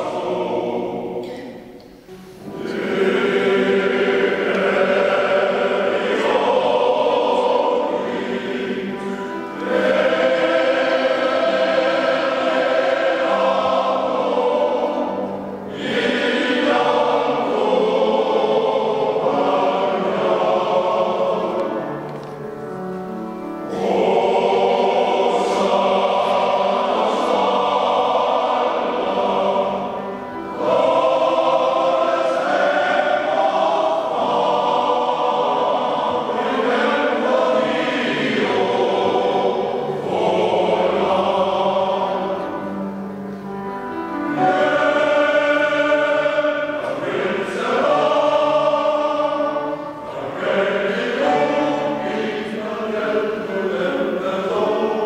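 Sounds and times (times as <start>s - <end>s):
male voice choir singing: 0.0s - 1.6s, 2.4s - 22.0s, 23.7s - 42.9s, 44.4s - 55.0s.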